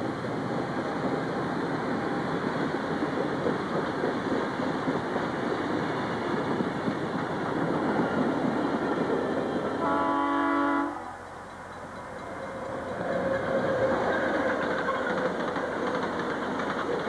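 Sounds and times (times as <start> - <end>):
freight train wheels rattling: 0.0 - 10.5, 11.2 - 17.0.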